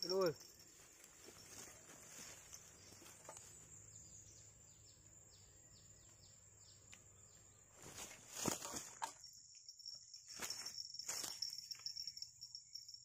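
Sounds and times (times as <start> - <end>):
bird chirping: 0.0 - 13.0
high insect drone: 0.0 - 13.0.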